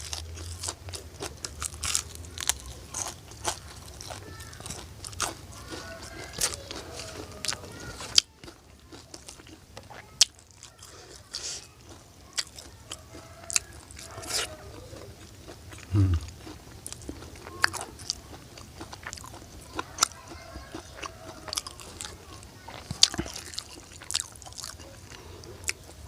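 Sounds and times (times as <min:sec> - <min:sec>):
chewing crisp fried food: 0:00.0 - 0:26.0.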